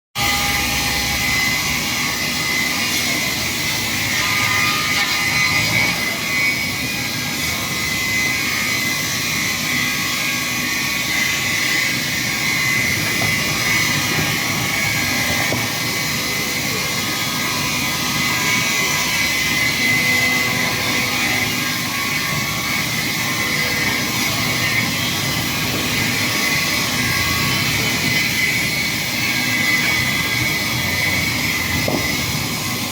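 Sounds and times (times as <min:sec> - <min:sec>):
band saw running with high whine: 0:00.2 - 0:32.9.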